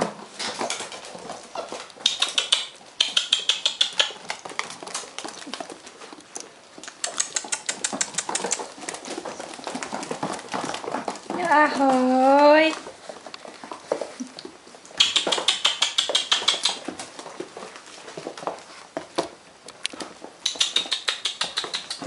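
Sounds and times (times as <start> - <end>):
puppy claws clicking on wood floor: 0.0 - 22.0.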